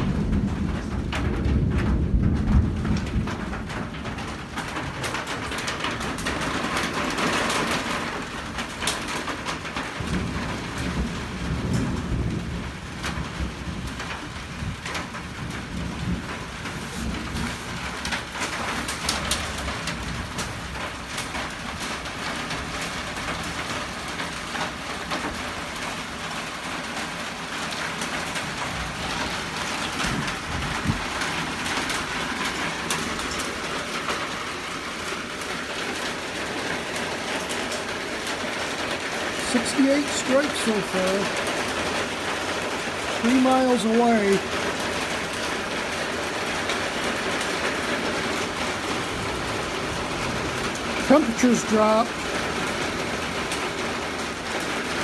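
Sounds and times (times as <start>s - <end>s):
rain on a tin roof: 0.0s - 55.0s
thunder rumble: 0.0s - 55.0s.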